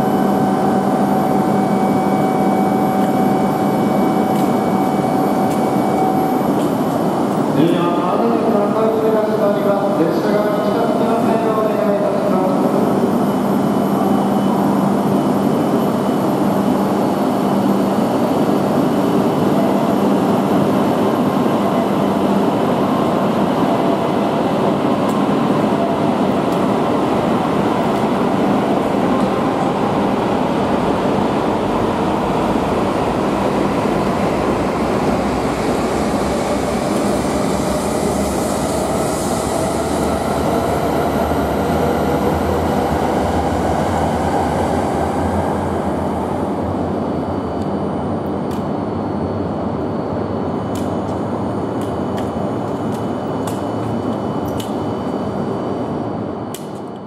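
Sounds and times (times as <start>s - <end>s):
high-speed train rushing past: 0.0s - 17.0s, 20.0s - 56.5s.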